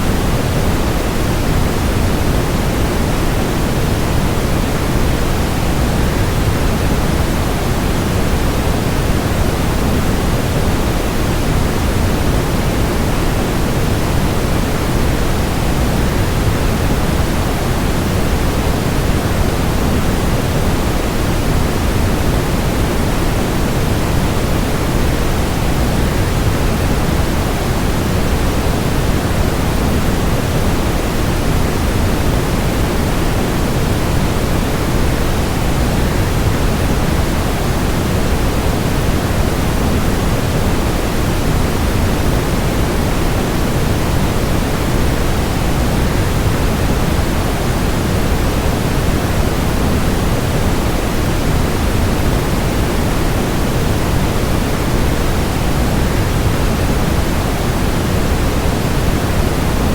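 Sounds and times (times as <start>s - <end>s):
white noise: 0.0s - 59.9s.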